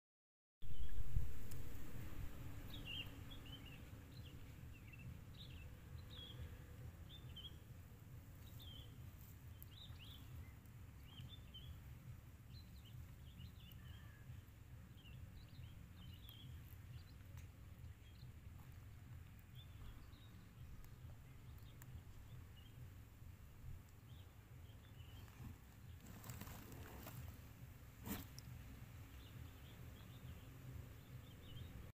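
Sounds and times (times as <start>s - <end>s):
faint birds chirping: 0.6s - 31.9s
low background rumble: 0.6s - 31.9s.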